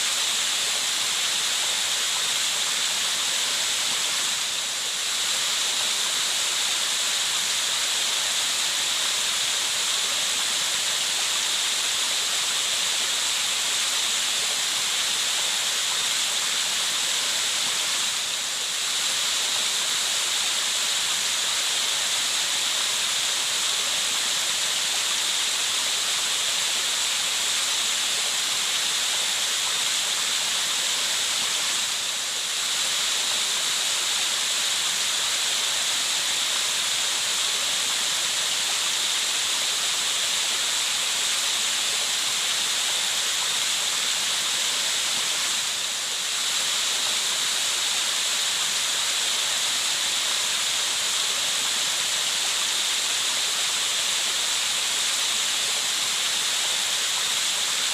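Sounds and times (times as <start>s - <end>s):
water rushing: 0.0s - 57.9s.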